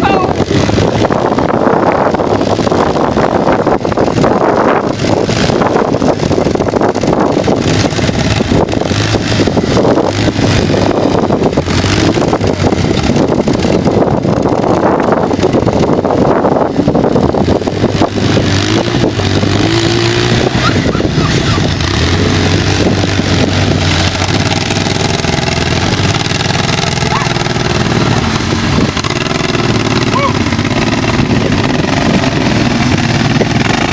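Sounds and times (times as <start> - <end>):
buggy engines running: 0.0 - 33.9.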